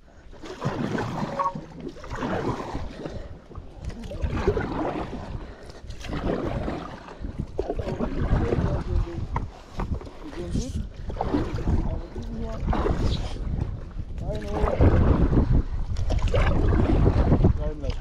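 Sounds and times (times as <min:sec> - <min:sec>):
water splashing and gurgling: 0:00.0 - 0:18.0
wind rumble on microphone: 0:00.0 - 0:18.0.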